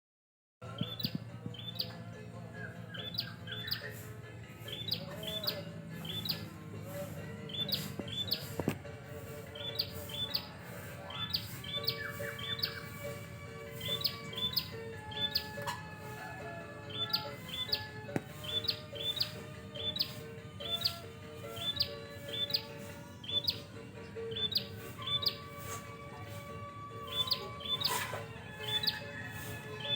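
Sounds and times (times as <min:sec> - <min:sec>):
songbirds chirping: 0:00.6 - 0:29.9
held steady tones: 0:03.3 - 0:27.8.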